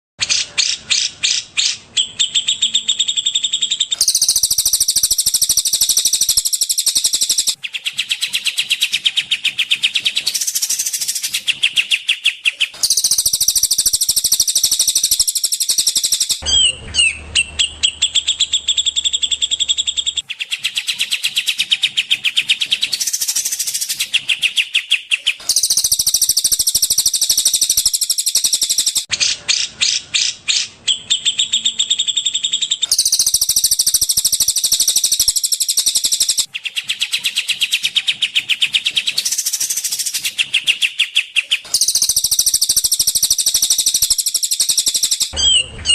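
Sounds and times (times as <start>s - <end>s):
high chattering bird trills: 0.2s - 45.9s
whistled bird phrases: 0.2s - 45.9s.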